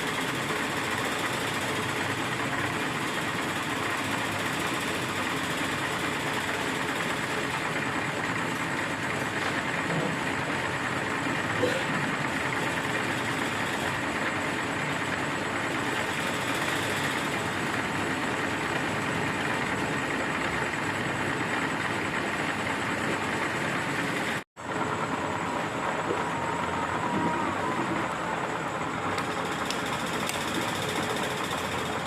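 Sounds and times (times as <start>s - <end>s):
milling machine running: 0.0s - 32.0s.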